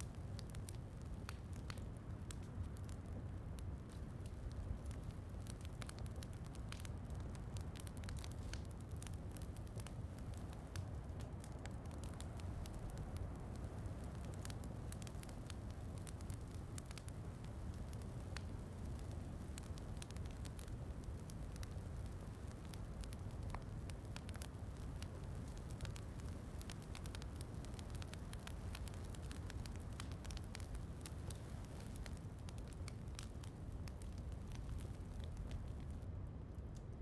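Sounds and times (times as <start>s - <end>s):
fireplace fire crackling: 0.0s - 37.0s.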